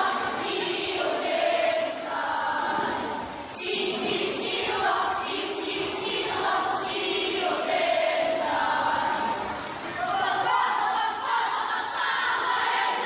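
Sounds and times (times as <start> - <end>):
children chanting in unison: 0.0 - 13.0.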